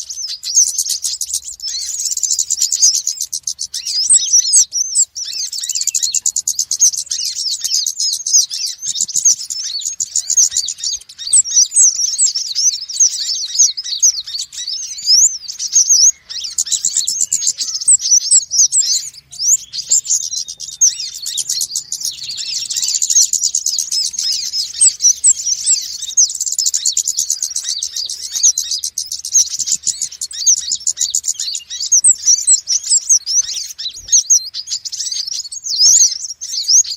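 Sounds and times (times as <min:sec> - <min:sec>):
sunbirds chirping and trilling: 0:00.0 - 0:36.9.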